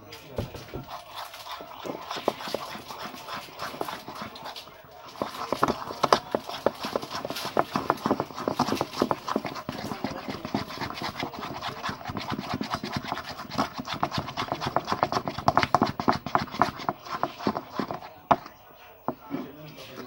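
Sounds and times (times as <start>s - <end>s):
slime squelching: 0.1s - 20.0s.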